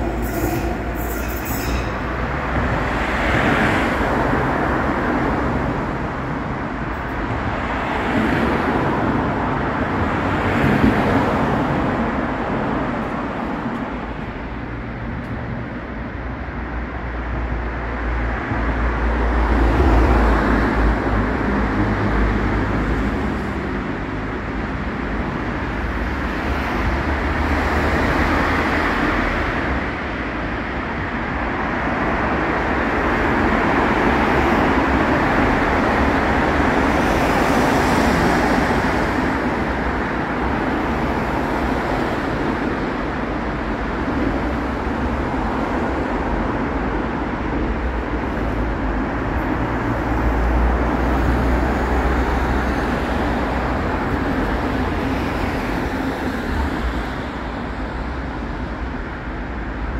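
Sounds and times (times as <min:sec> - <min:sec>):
city road traffic: 0:00.0 - 0:59.9.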